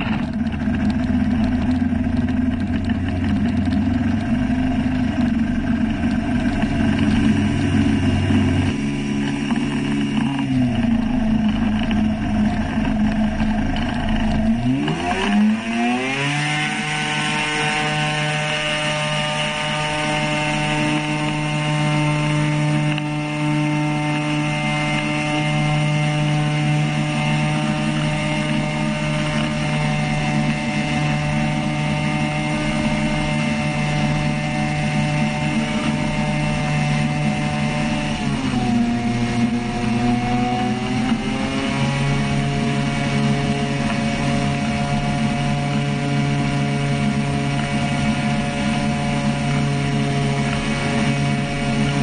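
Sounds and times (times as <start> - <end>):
propeller engine revving: 0.0 - 52.0.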